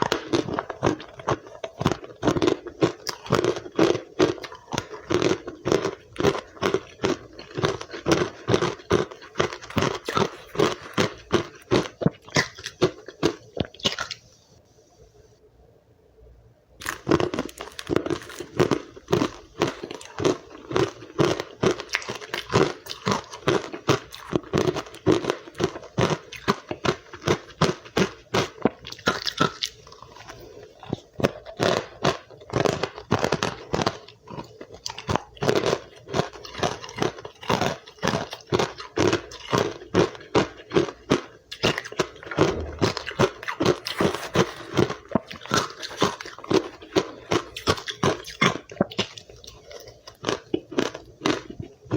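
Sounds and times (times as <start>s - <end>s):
ice being crunched and chewed: 0.0s - 14.2s, 16.8s - 51.9s.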